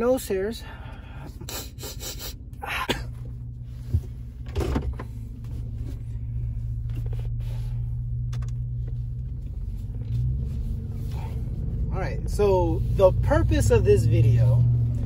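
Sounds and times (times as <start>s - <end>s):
car engine hum inside cabin: 0.0s - 15.0s.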